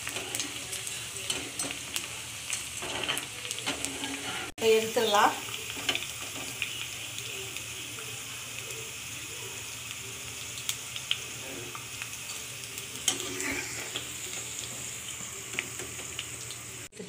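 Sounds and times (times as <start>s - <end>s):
okra sizzling in hot oil: 0.0s - 17.0s.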